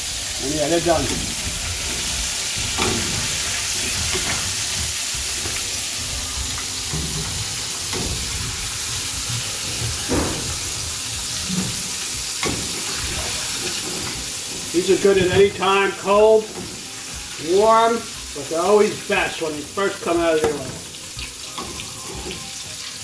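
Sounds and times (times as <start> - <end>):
shrimp sizzling in hot oil: 0.0 - 23.0.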